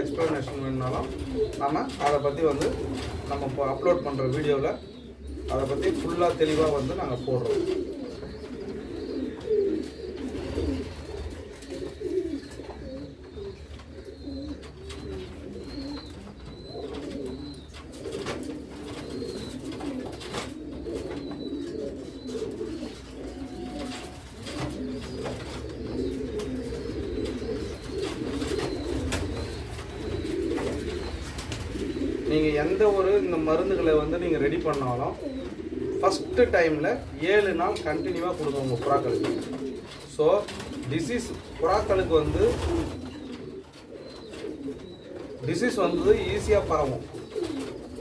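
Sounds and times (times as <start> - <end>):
pigeons cooing: 0.0 - 48.0.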